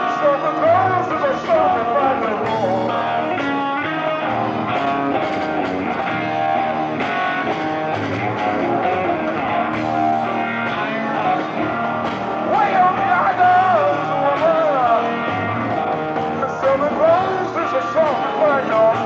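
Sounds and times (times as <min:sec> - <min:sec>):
bass guitar: 0:00.0 - 0:19.0
drums: 0:00.0 - 0:19.0
electric guitar chords: 0:00.0 - 0:19.0.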